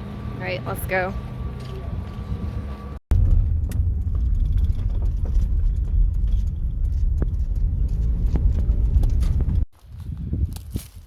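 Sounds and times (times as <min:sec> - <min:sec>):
car road and engine rumble: 0:00.0 - 0:09.7.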